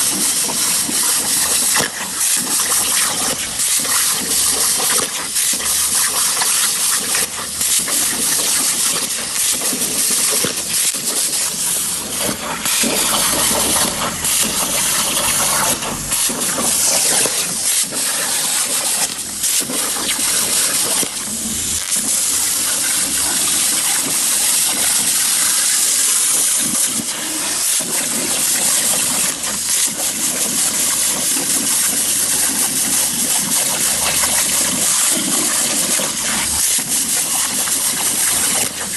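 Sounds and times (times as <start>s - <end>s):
plasma torch hissing: 0.0s - 38.9s.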